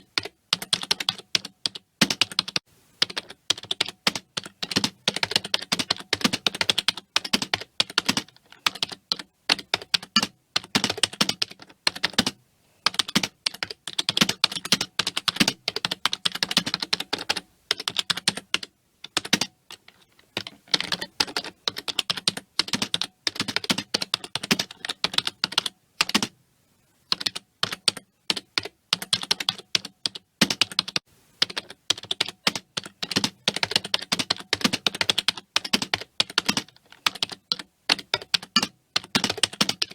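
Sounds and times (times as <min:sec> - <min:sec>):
computer keyboard typing: 0:00.0 - 0:26.3, 0:27.1 - 0:39.9.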